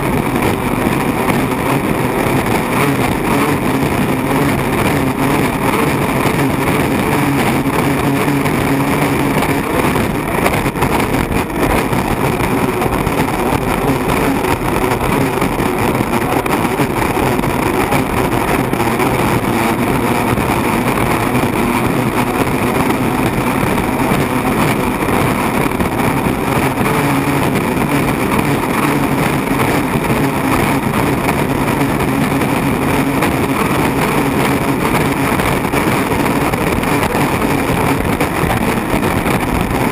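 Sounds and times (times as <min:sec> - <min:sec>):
turbine engine roaring: 0:00.0 - 0:39.9
wind and water rushing: 0:00.0 - 0:39.9.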